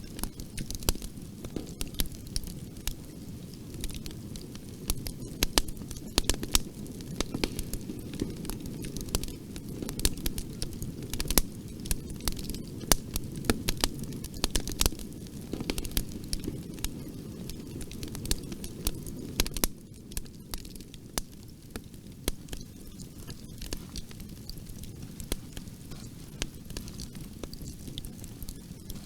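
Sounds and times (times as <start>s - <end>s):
low rush of flames: 0.0s - 29.0s
wood crackling and popping: 0.0s - 29.0s.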